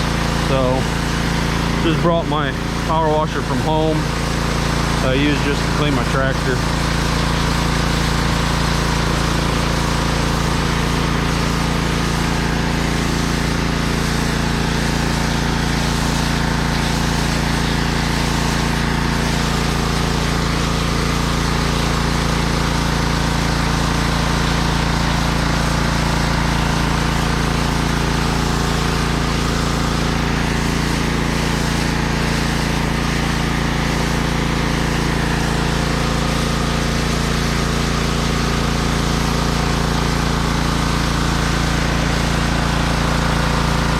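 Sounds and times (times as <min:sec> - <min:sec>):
pressure washer motor droning: 0:00.0 - 0:43.9
spray jet hissing on concrete: 0:00.0 - 0:43.9.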